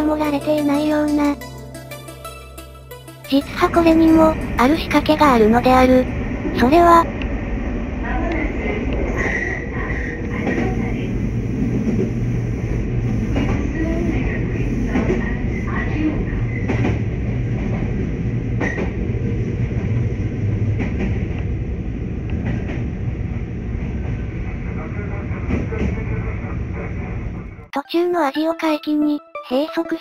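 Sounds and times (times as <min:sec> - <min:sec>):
electric train rumble and hum: 0:00.0 - 0:27.7.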